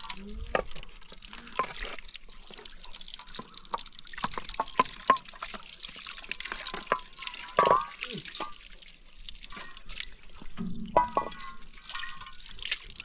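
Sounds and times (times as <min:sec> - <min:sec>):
liquid dripping and splashing: 0:00.0 - 0:13.0.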